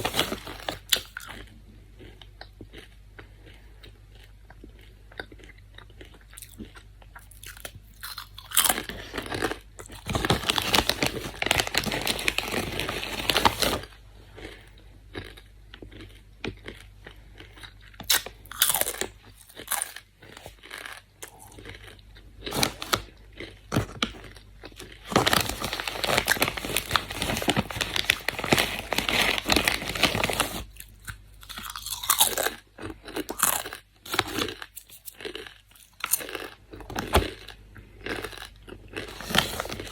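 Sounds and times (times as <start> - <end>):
tortilla chips crunching: 0.0 - 39.9.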